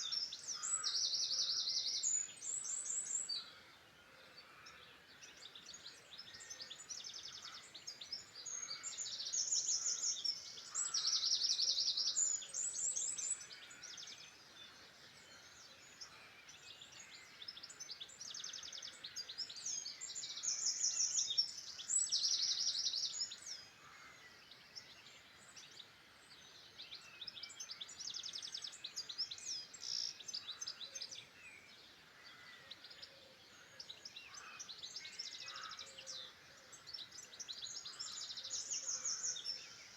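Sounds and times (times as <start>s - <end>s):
faint outdoor background: 0.0s - 39.9s
songbirds trilling: 0.0s - 39.9s.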